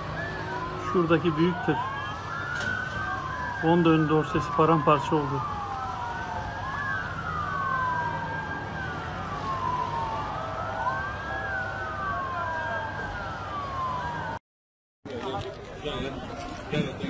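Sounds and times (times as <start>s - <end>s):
emergency sirens wailing: 0.0s - 14.4s, 15.1s - 17.0s.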